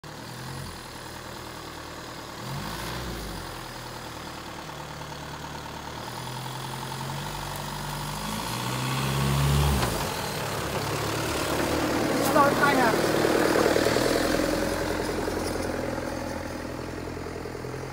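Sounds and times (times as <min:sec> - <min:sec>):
diesel engine pulling at low revs: 0:00.0 - 0:17.9.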